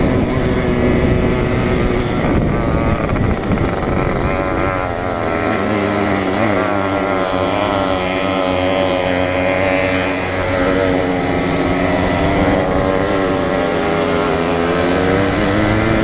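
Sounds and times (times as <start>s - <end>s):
moped engine running hard: 0.0s - 16.0s.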